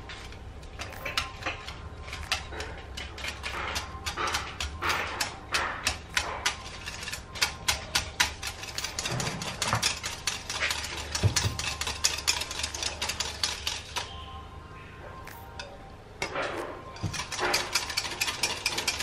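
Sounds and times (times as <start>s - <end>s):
whisk clicking against bowl: 0.8s - 14.1s, 17.0s - 19.0s.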